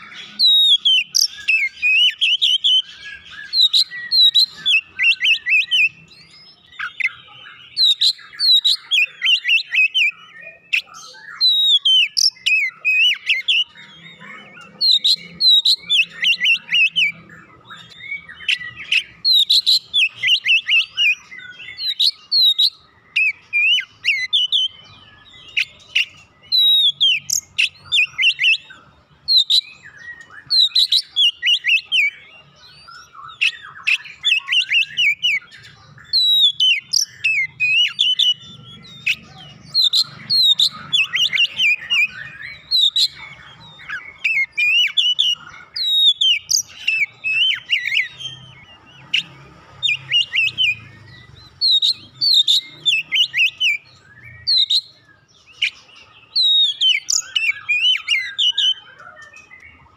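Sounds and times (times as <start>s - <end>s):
songbird whistles and chirps: 0.0s - 59.9s.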